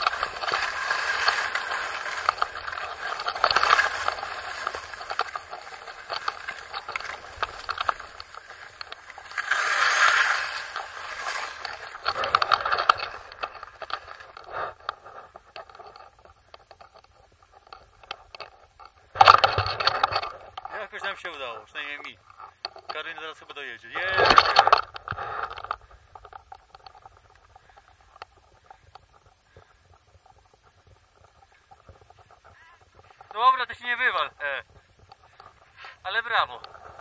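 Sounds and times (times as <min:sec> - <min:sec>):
skis scraping over snow: 0:00.0 - 0:16.5, 0:22.9 - 0:37.0.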